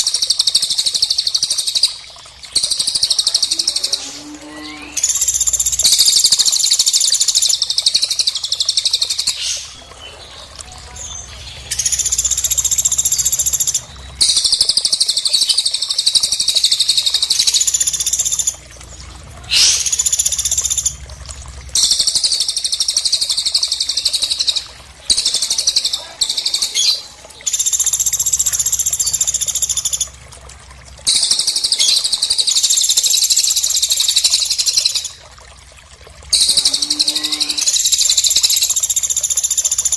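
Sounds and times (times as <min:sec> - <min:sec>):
high-pitched bird chirping and trilling: 0:00.0 - 0:18.6, 0:21.8 - 0:30.1, 0:31.1 - 0:35.2, 0:36.3 - 0:39.9.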